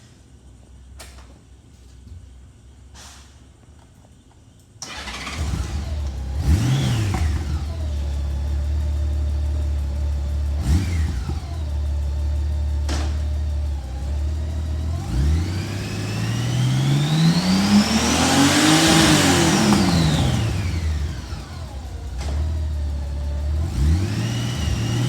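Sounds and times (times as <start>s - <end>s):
engine revving: 4.8s - 25.0s
motorcycle engine starting: 4.8s - 25.0s
engine idling: 4.9s - 25.0s.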